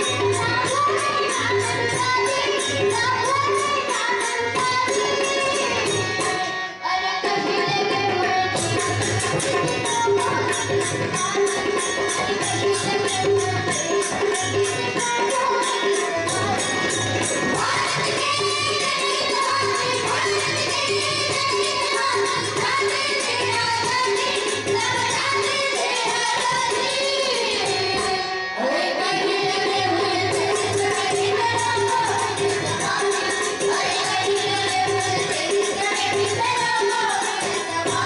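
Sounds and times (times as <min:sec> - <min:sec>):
girls singing devotional song: 0:00.0 - 0:38.0
tabla: 0:00.0 - 0:38.0.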